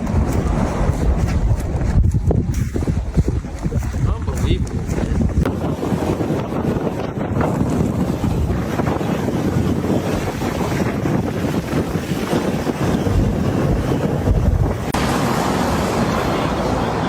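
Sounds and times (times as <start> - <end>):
hissy steady wind: 0.0 - 17.0
wind gusting on microphone: 0.0 - 17.0.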